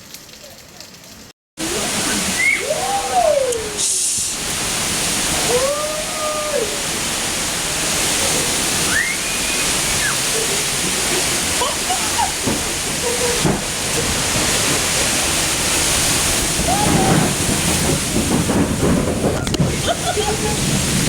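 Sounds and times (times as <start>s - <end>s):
hurricane wind and rain: 1.2s - 21.0s.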